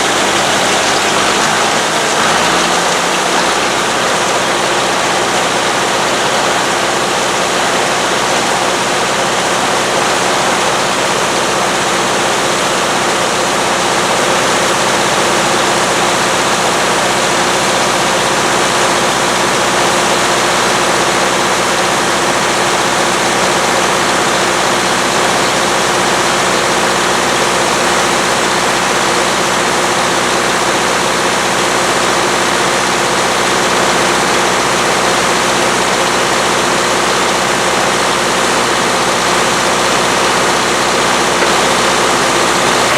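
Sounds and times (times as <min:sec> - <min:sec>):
combine harvester engine hum: 0:00.0 - 0:42.9.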